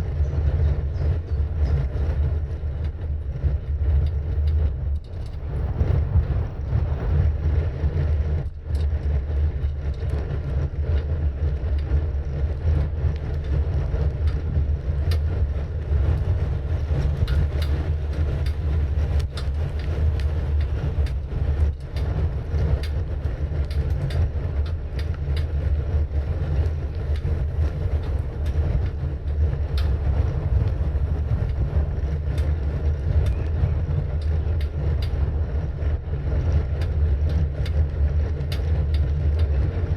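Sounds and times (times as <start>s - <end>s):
bicycle tyre rumble: 0.0s - 39.9s
wind buffeting microphone: 0.0s - 39.9s.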